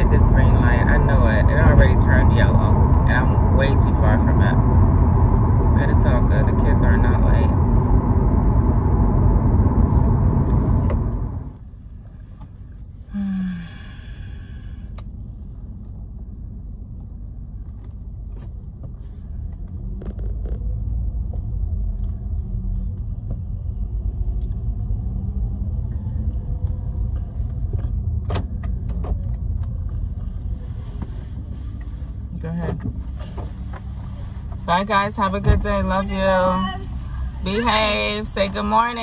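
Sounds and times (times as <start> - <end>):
car road and engine rumble: 0.0 - 39.0.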